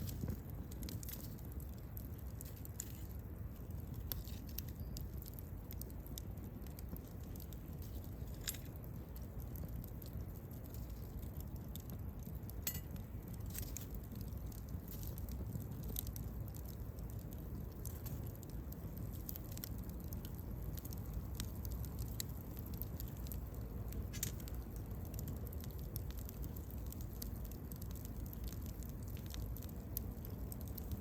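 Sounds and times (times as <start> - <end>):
bonfire flames rumbling: 0.0 - 31.0
fire crackling and popping: 0.0 - 31.0.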